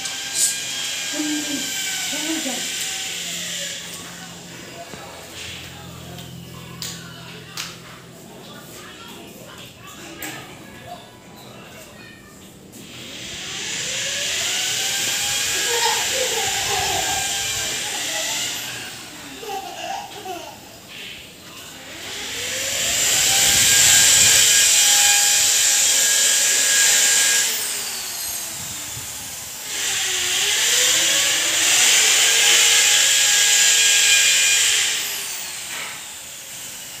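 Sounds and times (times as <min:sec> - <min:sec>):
power tool motor whining: 0:00.0 - 0:06.2, 0:12.8 - 0:20.3, 0:20.9 - 0:37.0.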